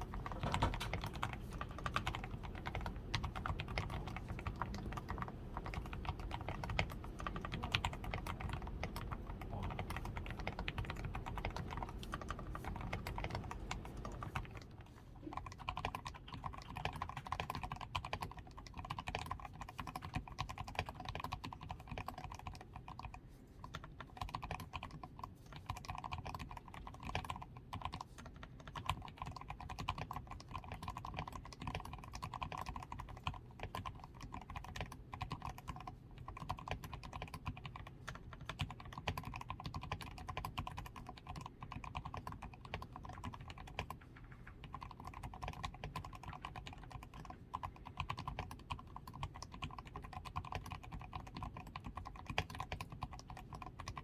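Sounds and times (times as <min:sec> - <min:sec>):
fast typing on mechanical keyboard: 0:00.0 - 0:54.0.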